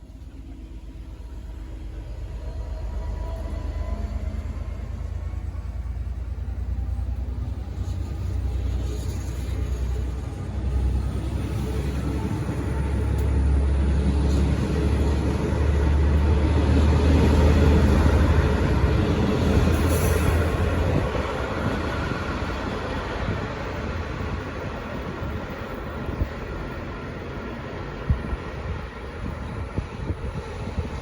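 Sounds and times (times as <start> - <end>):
diesel locomotive rumble: 0.0 - 31.0
train rolling along track: 0.0 - 31.0.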